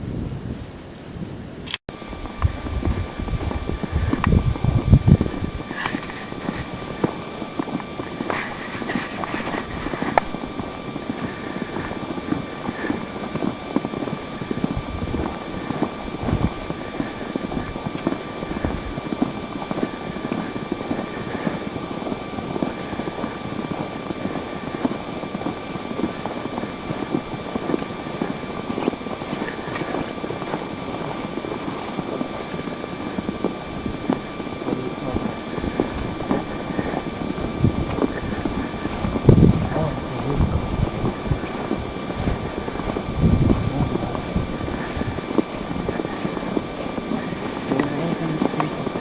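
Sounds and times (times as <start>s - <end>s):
wind buffeting microphone: 0.0s - 49.0s
footsteps crunching through snow: 1.9s - 49.0s.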